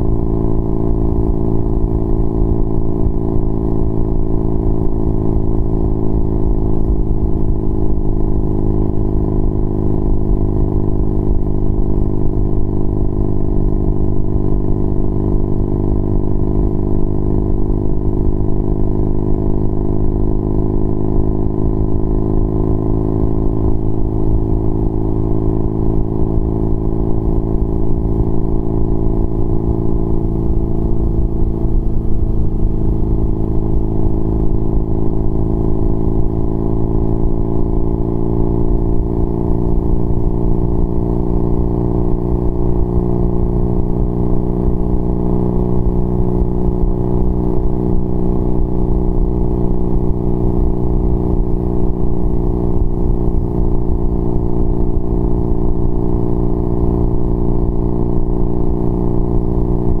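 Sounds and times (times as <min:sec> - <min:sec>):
motorcycle engine cruising: 0:00.0 - 1:00.0.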